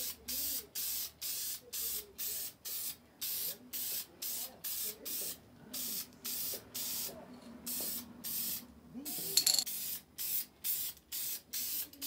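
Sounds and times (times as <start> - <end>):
spray paint hissing in bursts: 0.0 - 8.6, 9.2 - 12.0.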